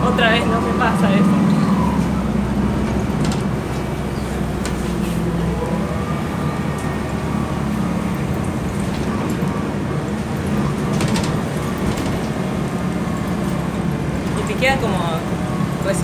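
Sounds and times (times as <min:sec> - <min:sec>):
engine hum: 0:00.0 - 0:16.0
road rumble: 0:00.0 - 0:16.0.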